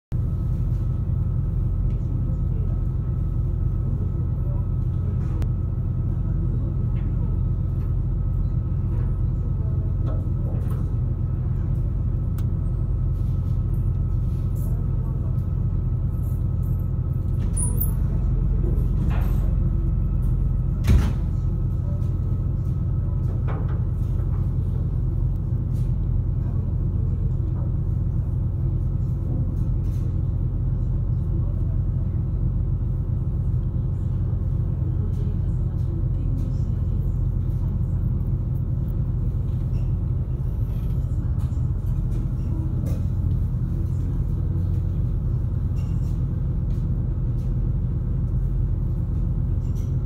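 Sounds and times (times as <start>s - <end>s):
ferry engines rumbling: 0.2s - 50.0s.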